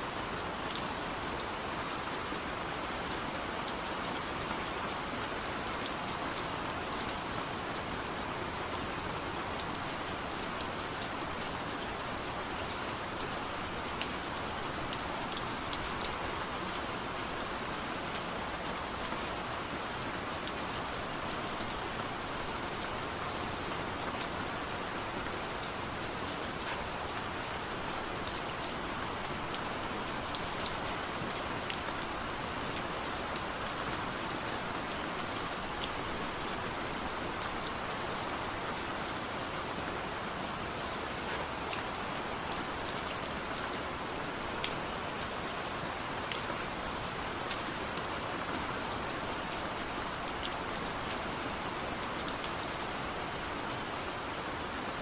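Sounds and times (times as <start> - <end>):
raindrops ticking on a surface: 0.2 - 55.0.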